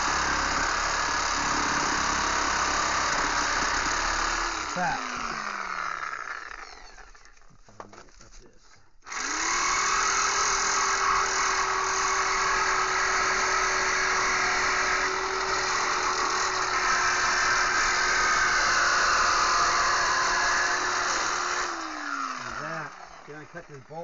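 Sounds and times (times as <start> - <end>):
power saw cutting metal: 0.0 - 7.3, 9.1 - 24.0.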